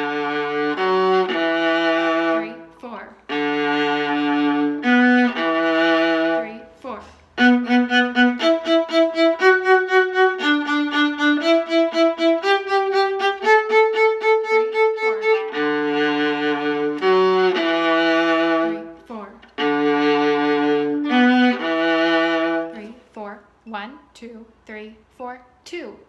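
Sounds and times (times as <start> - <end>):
string orchestra playing: 0.0 - 6.7, 7.4 - 22.9.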